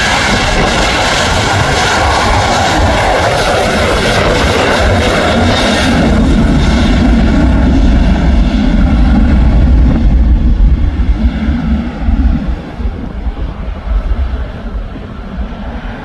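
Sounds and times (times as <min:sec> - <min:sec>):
airplane engines rumbling: 0:00.0 - 0:16.0.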